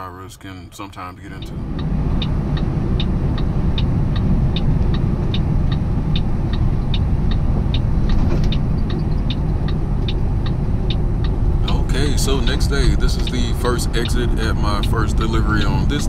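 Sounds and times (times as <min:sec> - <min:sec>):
truck engine and road rumble: 0:00.0 - 0:16.0
turn signal ticking: 0:01.2 - 0:16.0.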